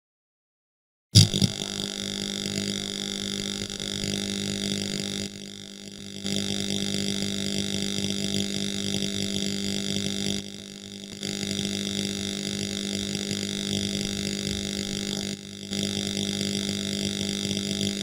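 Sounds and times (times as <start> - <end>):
arc welding buzz: 1.2 - 18.0.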